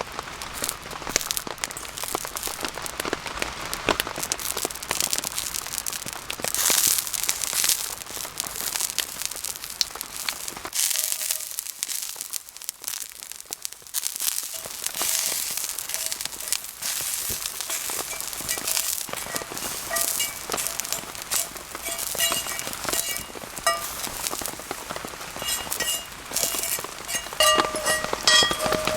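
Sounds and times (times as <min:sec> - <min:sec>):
campfire crackling and popping: 0:00.0 - 0:28.9
rain falling: 0:00.0 - 0:28.9.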